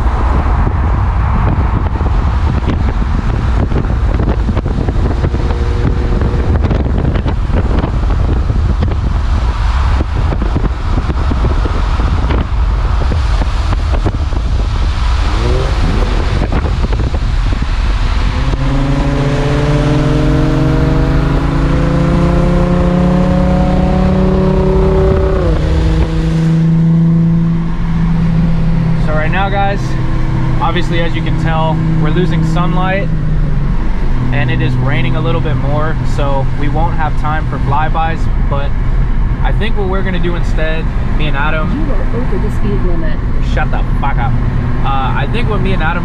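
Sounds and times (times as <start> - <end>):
car exhaust note: 0.0 - 46.0
road rumble: 0.0 - 46.0.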